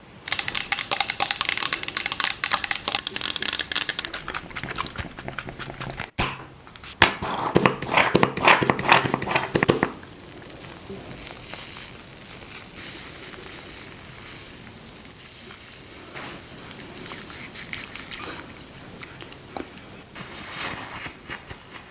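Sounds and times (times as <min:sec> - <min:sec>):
crinkling crackling rubbing: 0:00.3 - 0:07.0, 0:08.6 - 0:21.9.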